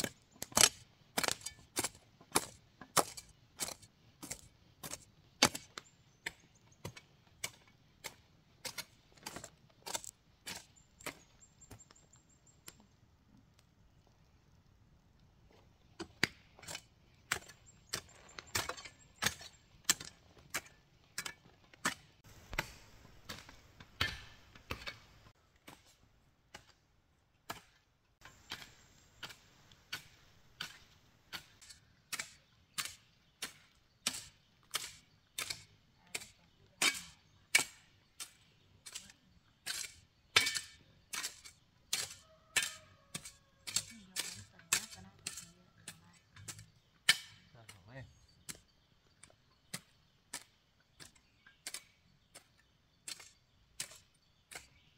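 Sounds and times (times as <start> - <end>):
hoes chopping into soil: 0.0 - 12.1, 15.5 - 26.8, 27.4 - 54.9.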